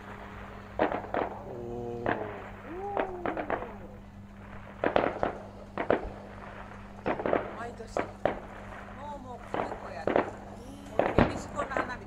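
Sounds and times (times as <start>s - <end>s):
distant fireworks bangs: 0.0s - 12.0s
fireworks crackles: 0.0s - 12.0s.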